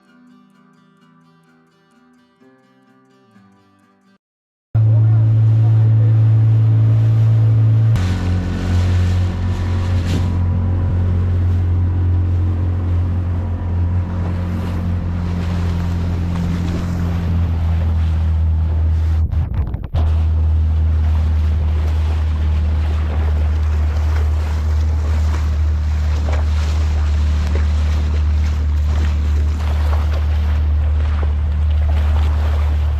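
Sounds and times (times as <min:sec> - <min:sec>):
boat motor running: 0:04.8 - 0:32.9
water noise: 0:04.8 - 0:32.9
wind: 0:04.8 - 0:32.9.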